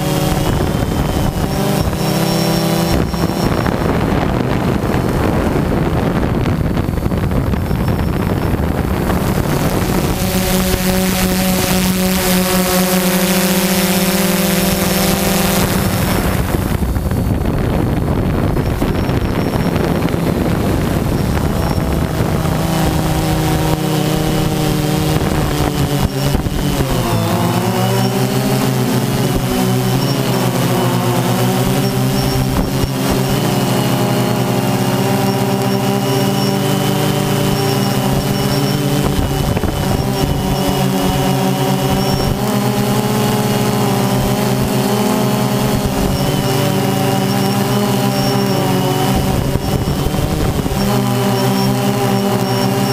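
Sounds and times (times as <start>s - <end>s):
drone propellers whirring: 0.0s - 52.9s.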